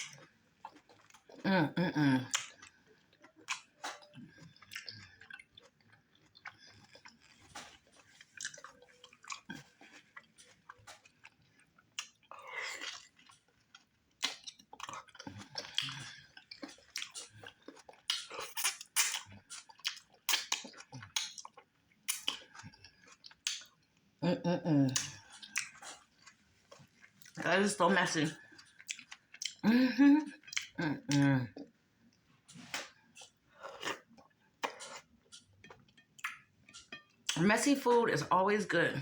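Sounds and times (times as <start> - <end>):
wet chewing and lip-smacking: 0.0 - 24.1, 24.8 - 37.4.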